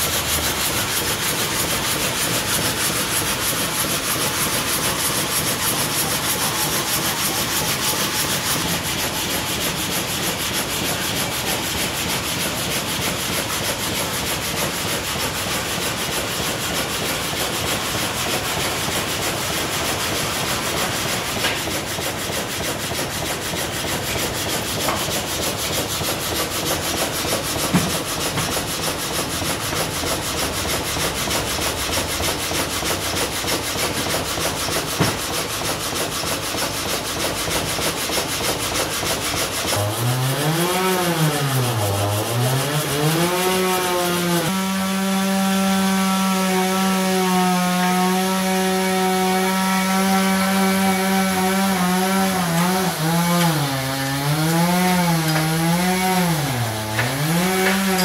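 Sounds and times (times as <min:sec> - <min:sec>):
log saw rasping through timber: 0:00.0 - 0:58.0.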